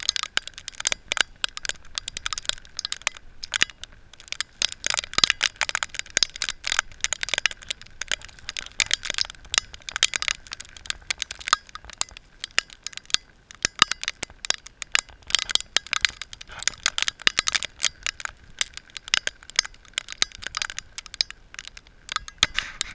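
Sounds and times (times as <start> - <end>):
ice pellets ticking on hard surfaces: 0.0 - 22.9.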